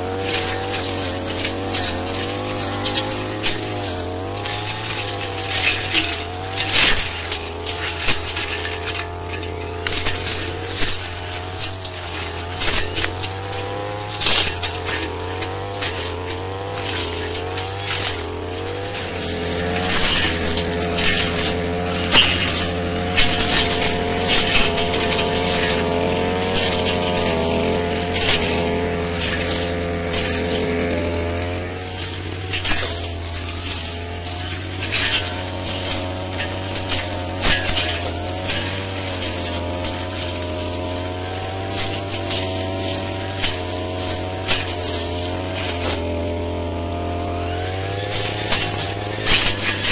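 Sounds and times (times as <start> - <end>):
blade striking stems: 0.0 - 49.9
brush cutter engine running: 0.0 - 49.9.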